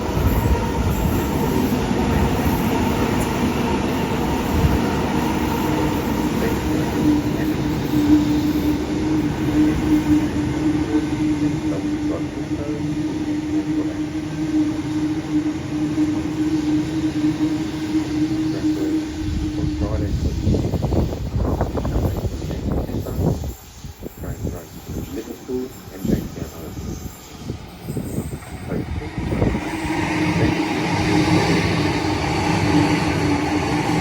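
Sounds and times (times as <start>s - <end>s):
electric train rumbling past: 0.0s - 34.0s.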